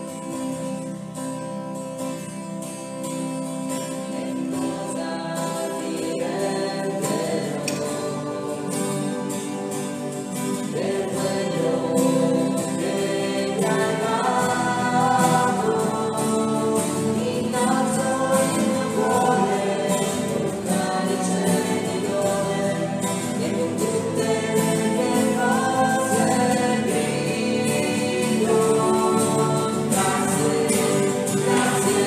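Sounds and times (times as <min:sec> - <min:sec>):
acoustic guitar: 0:00.0 - 0:32.0
group singing a hymn: 0:03.8 - 0:32.0.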